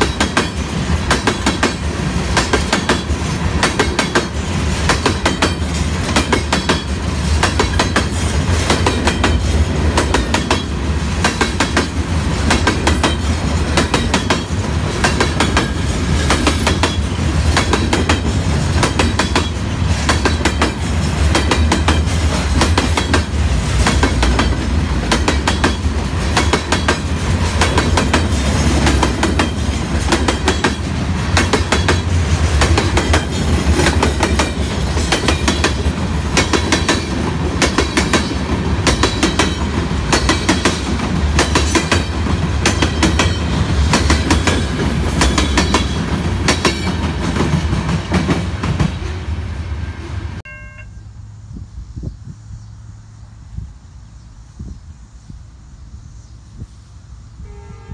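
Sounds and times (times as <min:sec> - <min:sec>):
wheels clacking over rail joints: 0:00.0 - 0:49.2
freight train rumbling past: 0:00.0 - 0:57.9.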